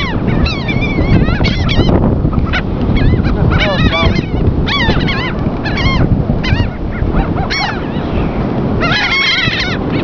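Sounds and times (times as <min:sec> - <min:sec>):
gulls calling: 0:00.0 - 0:10.0.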